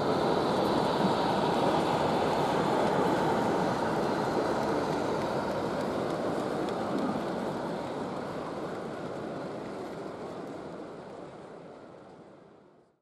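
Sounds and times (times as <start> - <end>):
model train rumbling on track: 0.0 - 12.8.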